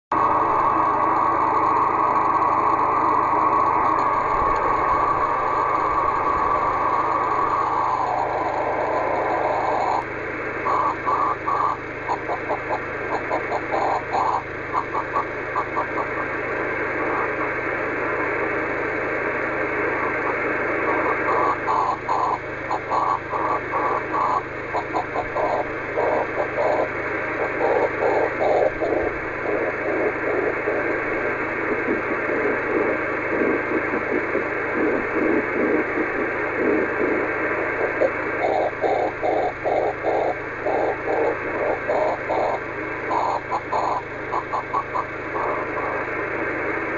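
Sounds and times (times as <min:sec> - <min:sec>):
hissing smeared radio tone: 0:00.1 - 0:46.9
radio noise: 0:00.1 - 0:46.9.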